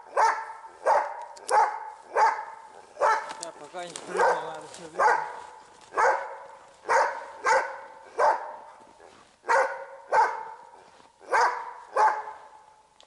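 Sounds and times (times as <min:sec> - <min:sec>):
dog barking with echo: 0:00.0 - 0:03.4, 0:04.1 - 0:12.8.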